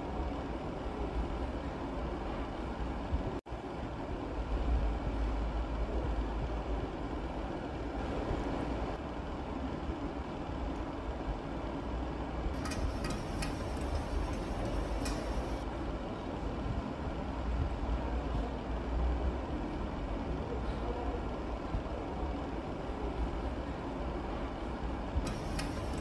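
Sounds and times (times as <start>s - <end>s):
low rumble and hiss: 0.0s - 26.0s.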